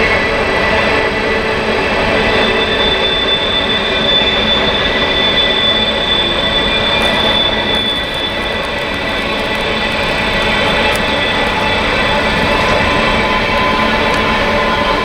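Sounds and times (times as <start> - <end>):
high-pitched whine: 0.0 - 15.0
train cars rolling on rails: 0.0 - 15.0.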